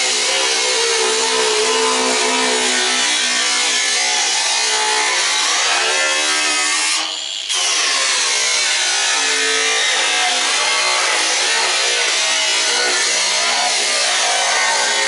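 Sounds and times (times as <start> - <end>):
power tool cutting sheet metal: 0.0 - 15.0.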